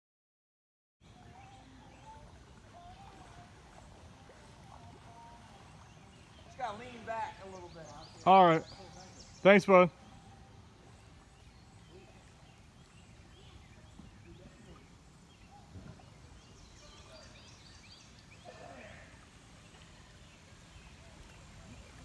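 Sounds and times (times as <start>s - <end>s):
low steady creek background: 1.0s - 22.0s
water plinks: 1.1s - 22.0s.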